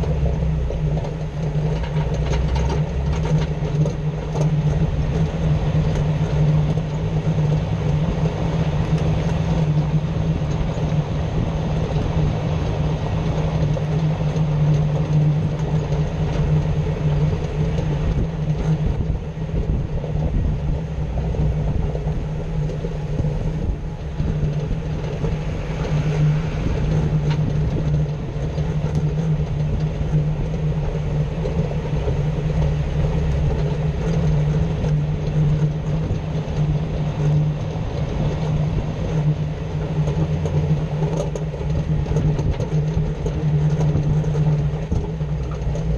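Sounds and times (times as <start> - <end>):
grinding noise: 0.0 - 45.9
vehicle drivetrain rumble: 0.0 - 45.9.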